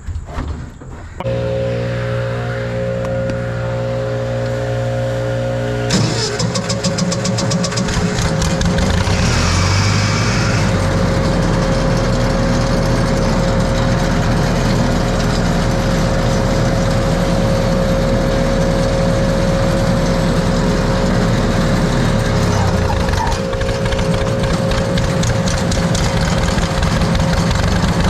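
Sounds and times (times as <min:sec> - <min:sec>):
motor engine running steadily: 0:01.2 - 0:28.0.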